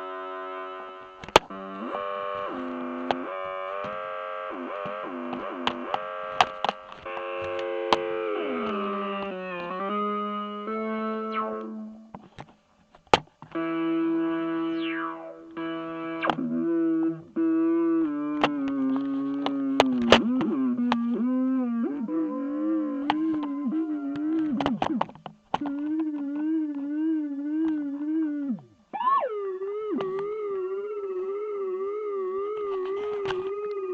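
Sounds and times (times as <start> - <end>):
electronic drone music: 0.0 - 12.2, 13.5 - 33.9.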